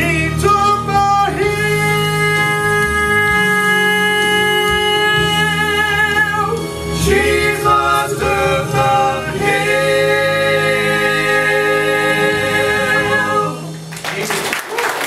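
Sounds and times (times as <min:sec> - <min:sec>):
male vocal trio singing in harmony: 0:00.0 - 0:13.8.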